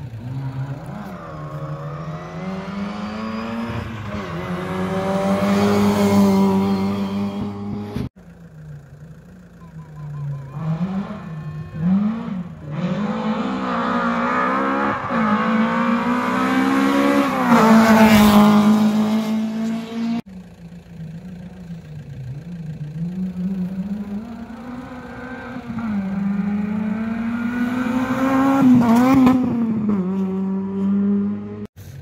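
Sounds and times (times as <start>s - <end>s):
rally car engine revving: 0.0s - 31.7s
distant car engine: 0.0s - 32.0s.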